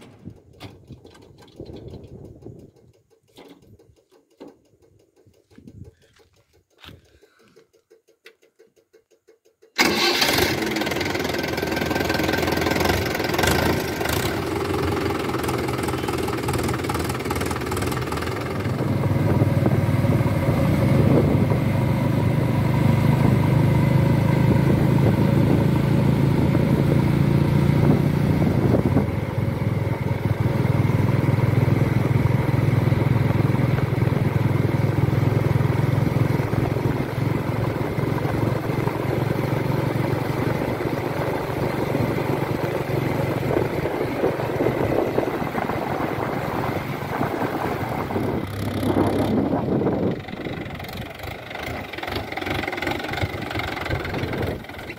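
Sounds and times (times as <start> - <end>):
tractor diesel engine clattering: 0.0 - 20.5, 28.4 - 54.9
backhoe loader diesel engine: 0.0 - 54.9.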